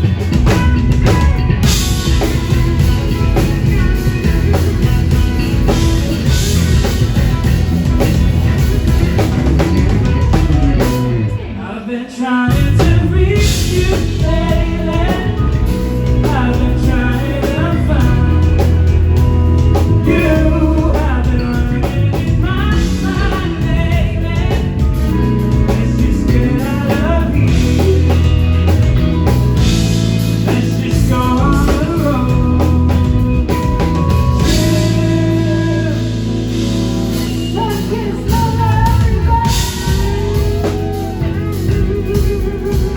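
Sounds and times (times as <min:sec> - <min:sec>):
person singing: 0:00.0 - 0:42.9
rock band playing live: 0:00.0 - 0:42.9.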